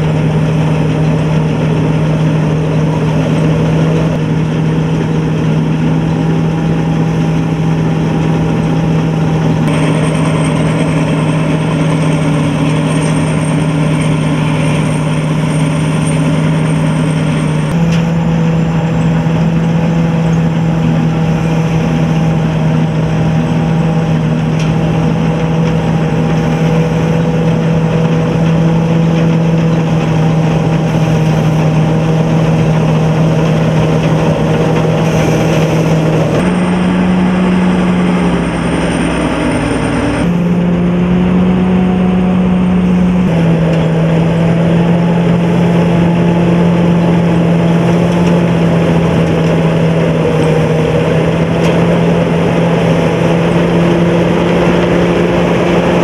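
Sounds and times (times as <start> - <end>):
combine harvester engine drone: 0.0 - 56.0.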